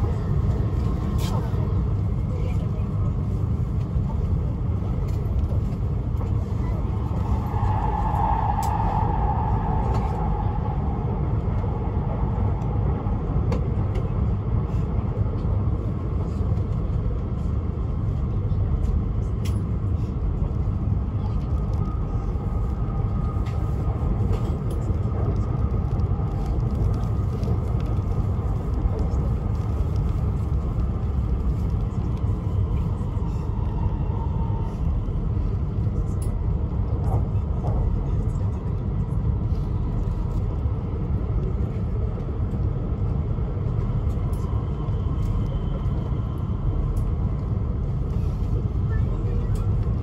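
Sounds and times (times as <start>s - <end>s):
train rumble inside cabin: 0.0s - 50.0s.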